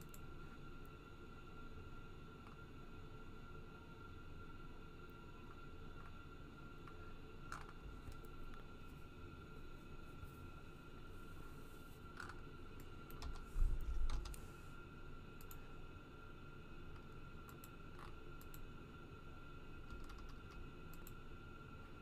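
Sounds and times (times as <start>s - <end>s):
faint high-pitched hum: 0.0s - 22.0s.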